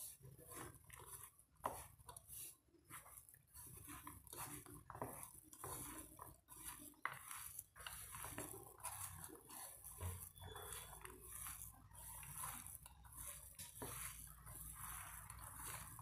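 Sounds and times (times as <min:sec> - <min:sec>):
hand squishing grated potato: 0:00.0 - 0:16.0.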